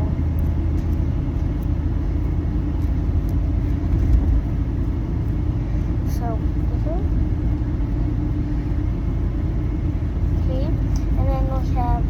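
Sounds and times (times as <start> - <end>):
steady low rumbling: 0.0 - 12.0.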